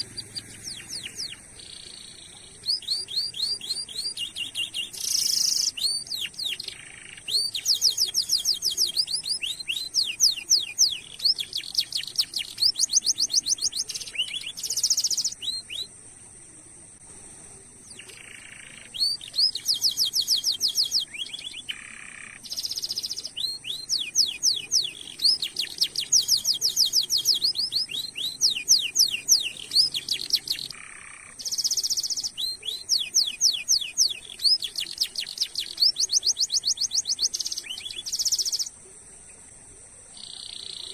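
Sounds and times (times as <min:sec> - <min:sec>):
canary singing: 0:00.0 - 0:16.0, 0:17.9 - 0:38.8, 0:40.2 - 0:40.9.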